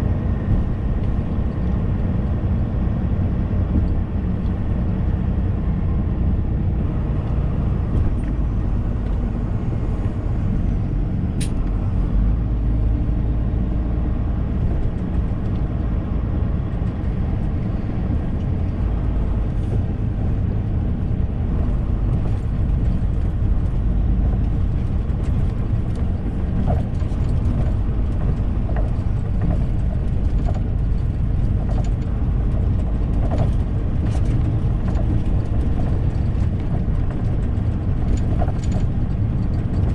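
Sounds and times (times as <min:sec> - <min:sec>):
lorry engine and road drone: 0:00.0 - 0:39.9.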